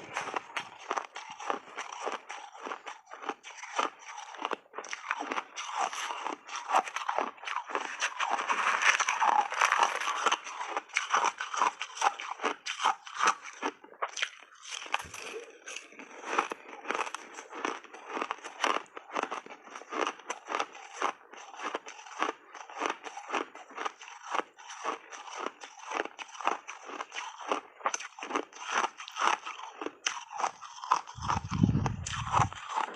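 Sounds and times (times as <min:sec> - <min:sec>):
ice being crunched and chewed: 0:00.0 - 0:32.9.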